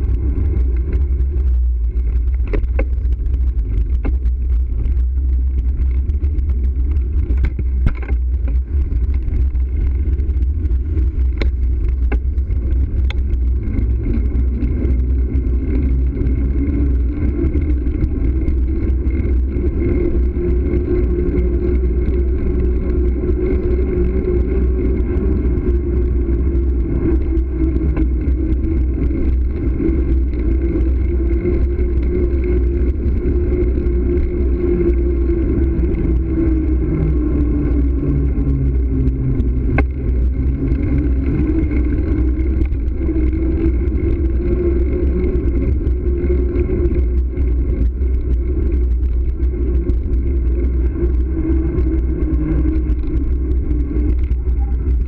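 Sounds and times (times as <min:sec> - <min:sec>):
bicycle tyre and road noise: 0:00.0 - 0:55.0
steady hum: 0:00.0 - 0:55.0
wind rumble on microphone: 0:00.0 - 0:55.0.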